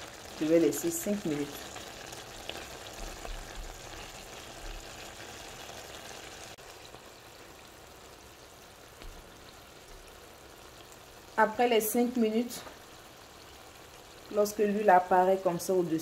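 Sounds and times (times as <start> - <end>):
sauce simmering in a pot: 0.0 - 16.0.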